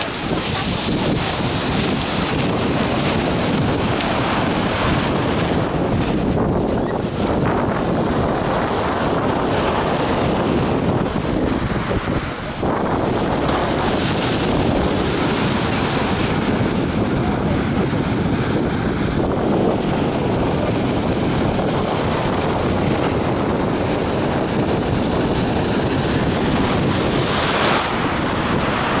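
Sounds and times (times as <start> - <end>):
surf breaking on pebble beach: 0.0 - 29.0
wind buffeting microphone: 0.0 - 29.0.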